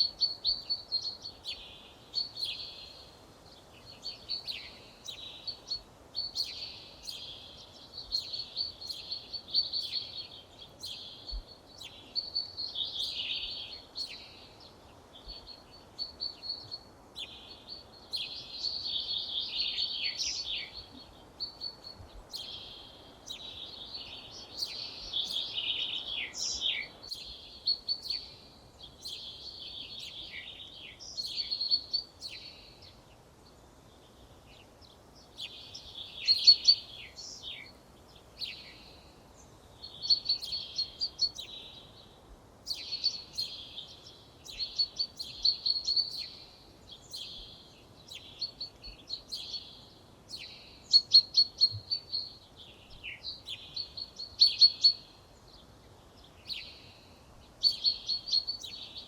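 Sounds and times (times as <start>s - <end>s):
songbirds twittering: 0.0s - 59.0s.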